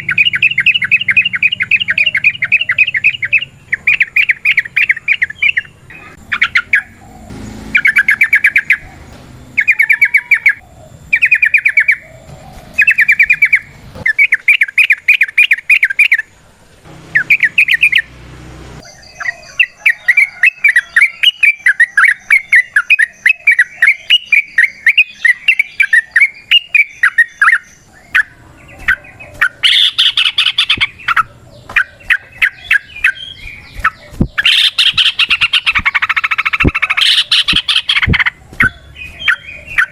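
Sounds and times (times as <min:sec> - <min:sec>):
bulbuls chattering song: 0:00.0 - 0:39.9.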